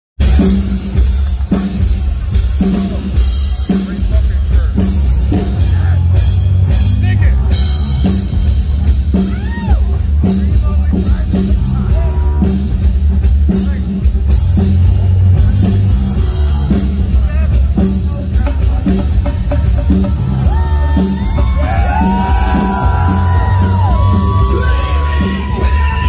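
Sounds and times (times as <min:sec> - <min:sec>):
bass guitar: 0:00.2 - 0:26.0
heavy metal band playing live: 0:00.2 - 0:26.0
pounding drum kit: 0:00.2 - 0:26.0.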